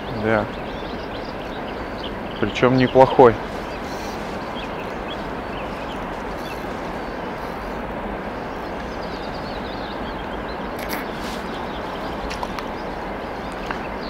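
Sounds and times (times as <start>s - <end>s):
birds chirping faintly: 0.0s - 14.0s
river water rushing: 0.0s - 14.0s.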